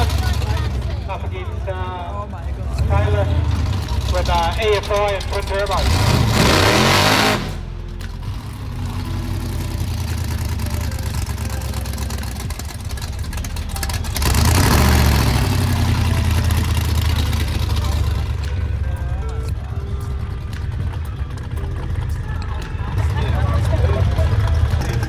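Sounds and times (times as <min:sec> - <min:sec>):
drag-racing car engines rumbling: 0:00.0 - 0:25.0.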